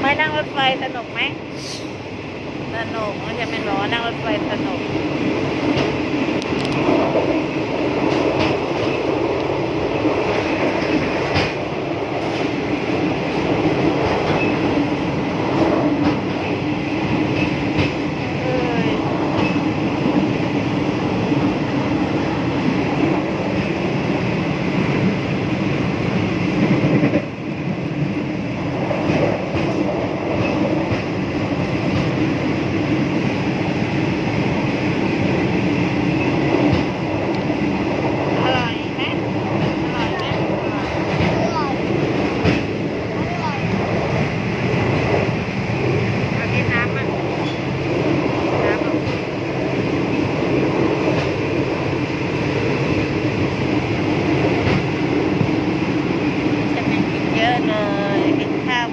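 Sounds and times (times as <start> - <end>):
train wheels rattling on track: 0.0 - 58.9.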